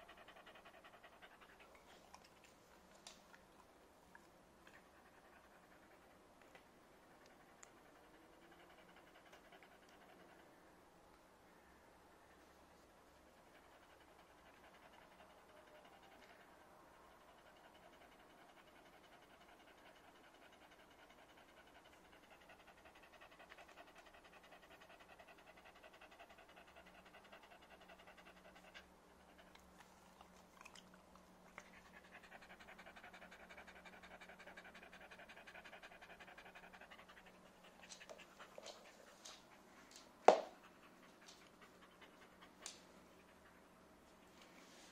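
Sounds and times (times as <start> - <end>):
dog panting rapidly: 0.0 - 3.2, 7.3 - 10.6, 13.5 - 43.8.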